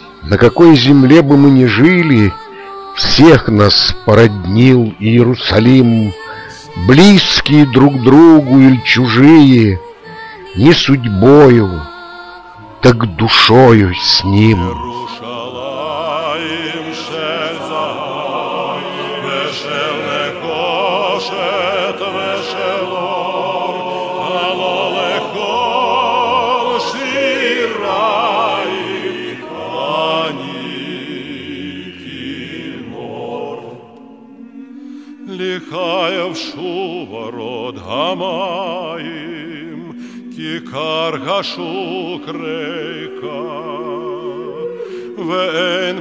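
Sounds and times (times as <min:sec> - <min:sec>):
operatic singing with accompaniment: 0:00.0 - 0:46.0.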